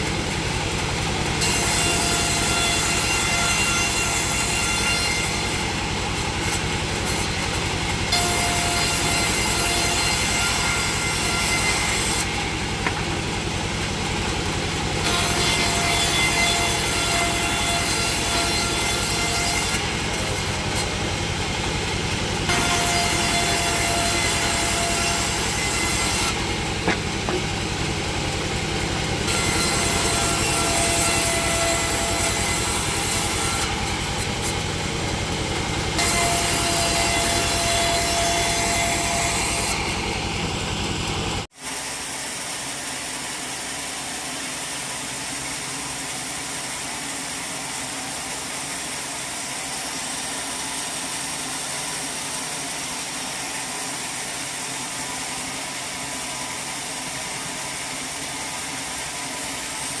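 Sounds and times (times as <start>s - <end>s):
sawmill saw whining: 0.0s - 60.0s.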